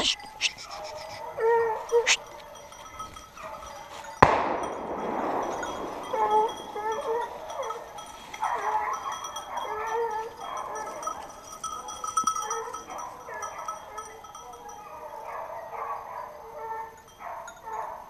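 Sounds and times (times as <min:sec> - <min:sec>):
hounds baying: 0:00.0 - 0:18.0.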